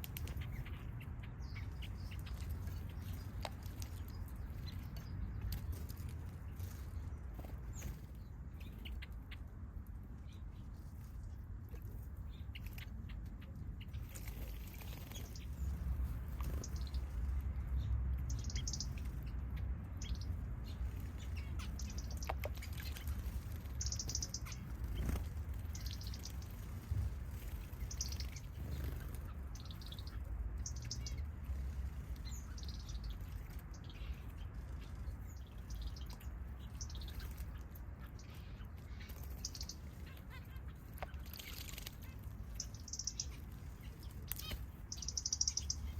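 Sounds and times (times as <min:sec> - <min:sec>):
steady low rumble: 0:00.0 - 0:40.2
small birds chirping: 0:00.0 - 0:45.9.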